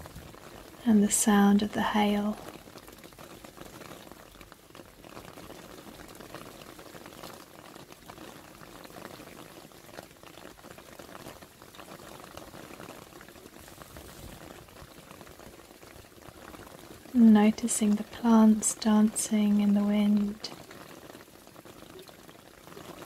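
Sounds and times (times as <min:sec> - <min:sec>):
rain and hail pattering: 0:00.0 - 0:23.0.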